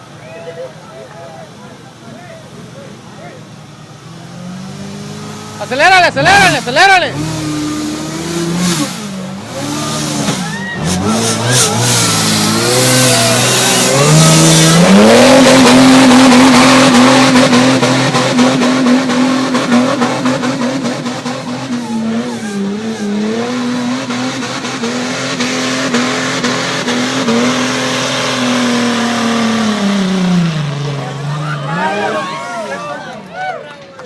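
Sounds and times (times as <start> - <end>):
car engine revving: 2.5 - 32.4.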